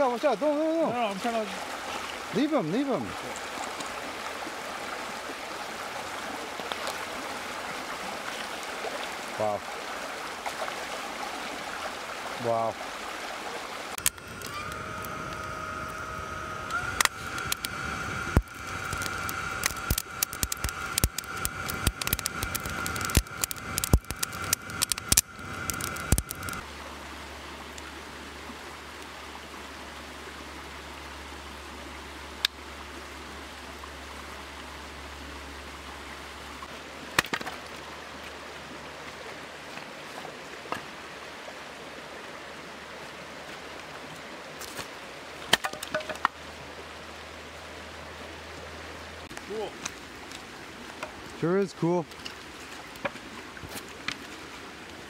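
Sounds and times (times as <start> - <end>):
creek water running: 0.0 - 55.0.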